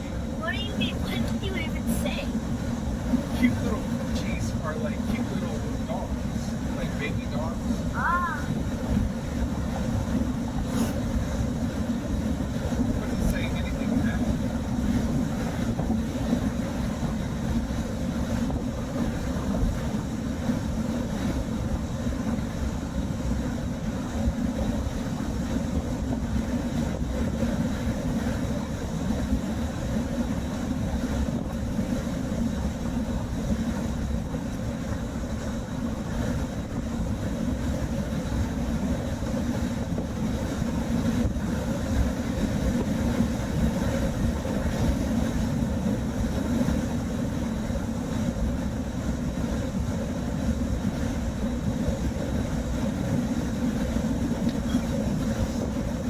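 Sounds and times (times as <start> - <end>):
road and engine rumble in car: 0.0 - 56.0.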